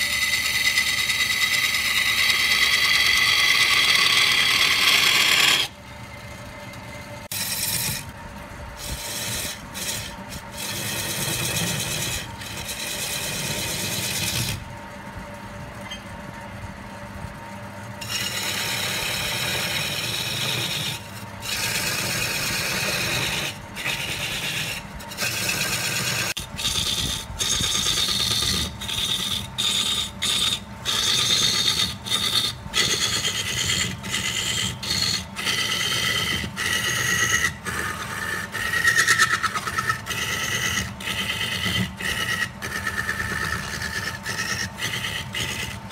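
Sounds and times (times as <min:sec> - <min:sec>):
gouge scraping spinning wood: 0:00.0 - 0:14.9, 0:18.0 - 0:45.9
lathe humming: 0:00.0 - 0:16.4, 0:18.0 - 0:45.9.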